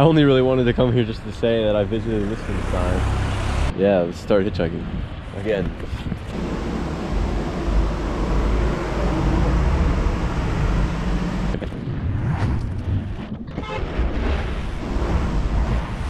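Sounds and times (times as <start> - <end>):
vehicle and road noise: 0.0 - 16.0.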